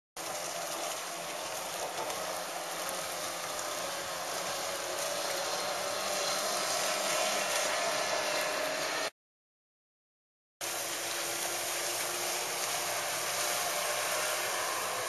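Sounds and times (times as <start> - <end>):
outboard motor running at speed: 0.2 - 9.1, 10.6 - 15.0.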